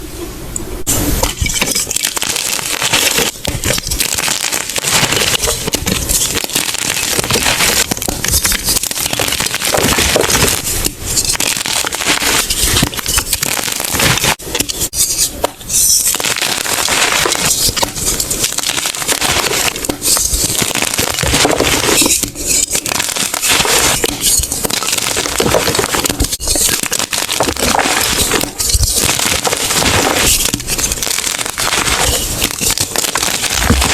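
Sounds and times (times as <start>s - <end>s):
chalk crunching by hand: 1.7s - 33.9s.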